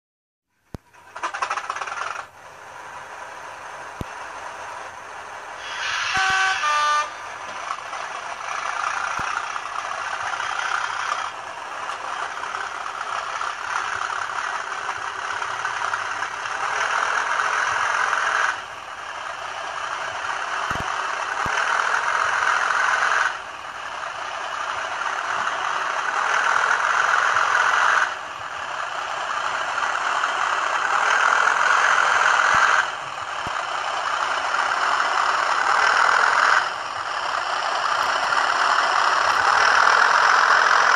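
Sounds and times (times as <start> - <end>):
model train diesel engine sound: 0.5 - 40.9.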